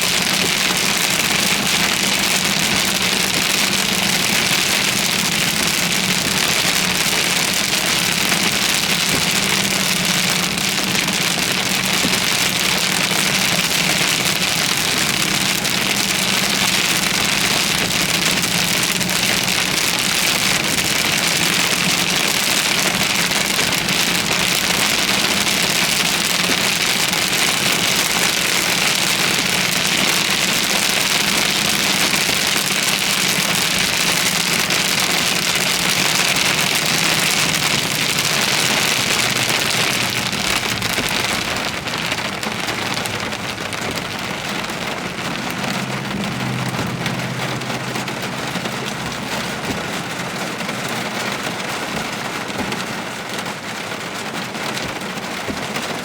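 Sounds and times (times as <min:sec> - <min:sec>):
heavy rain beating on a car: 0:00.0 - 0:56.0
vehicle hum: 0:00.0 - 0:56.0.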